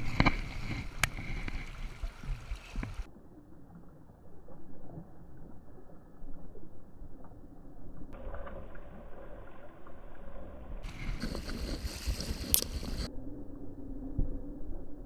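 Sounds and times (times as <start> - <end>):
river water sloshing and lapping: 0.0 - 13.1
low rumble: 0.0 - 15.0.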